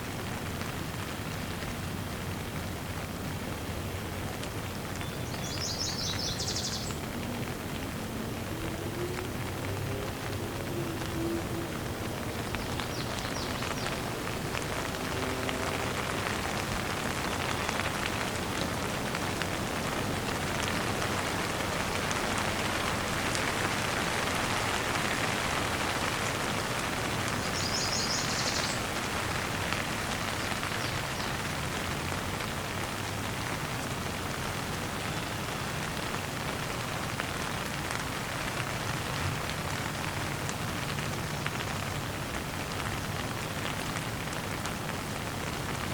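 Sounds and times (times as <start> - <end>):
raindrops ticking: 0.0 - 45.9
steady rain falling: 0.0 - 45.9.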